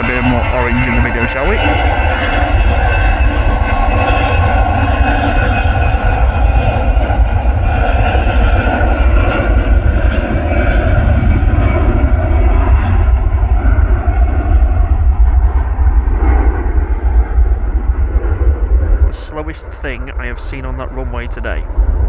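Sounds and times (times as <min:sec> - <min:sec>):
jet engines droning and whining: 0:00.0 - 0:22.0.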